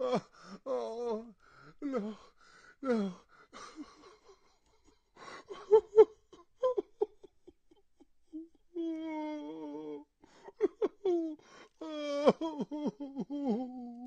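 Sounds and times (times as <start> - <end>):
man sobbing: 0.0 - 14.0.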